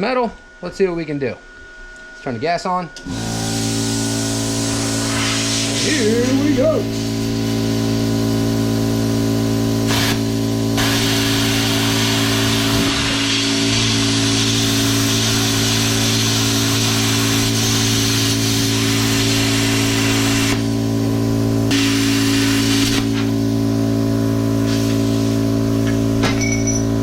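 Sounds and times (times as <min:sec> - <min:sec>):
machine and air pump humming: 0:00.0 - 0:27.0
plasma cutter arc hissing: 0:03.1 - 0:25.9.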